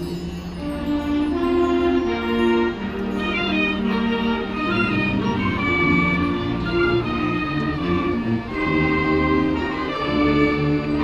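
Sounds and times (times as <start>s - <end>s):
marching band playing long notes: 0.0s - 11.0s.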